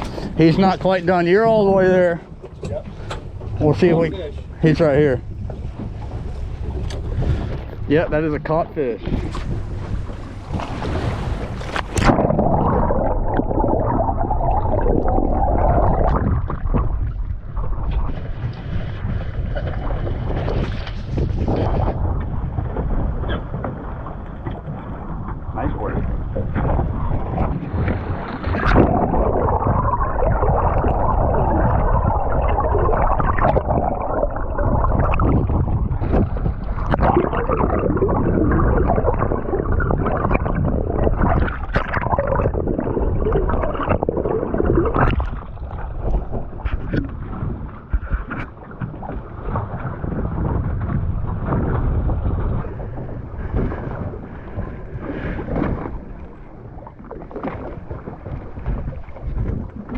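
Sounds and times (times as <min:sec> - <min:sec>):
water splashing against boat: 0:00.0 - 0:59.9
wind buffeting microphone: 0:00.0 - 0:59.9.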